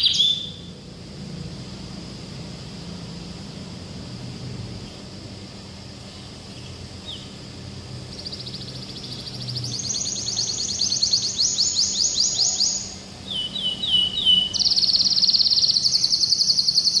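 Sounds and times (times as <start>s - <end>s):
canary singing fast trill: 0.0s - 17.0s.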